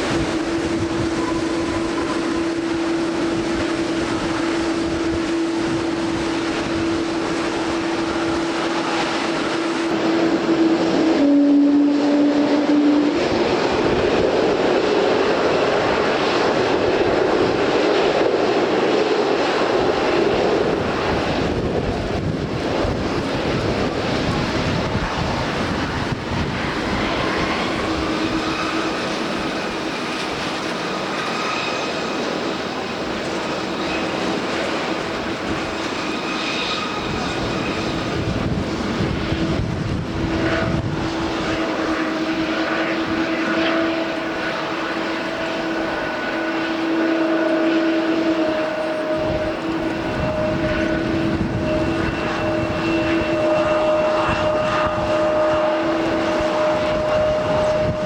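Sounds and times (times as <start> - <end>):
jet engines humming and whining: 0.0 - 58.0
wind: 0.0 - 58.0.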